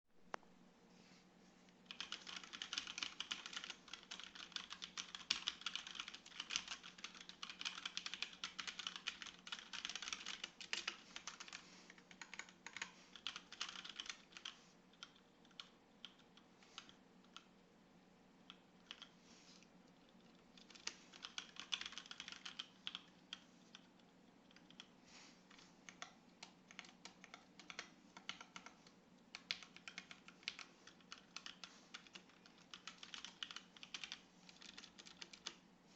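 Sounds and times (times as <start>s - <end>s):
faint steady hum: 0.1s - 35.9s
mechanical keyboard typing: 1.9s - 17.5s, 18.5s - 19.1s, 20.1s - 24.9s, 25.5s - 35.6s.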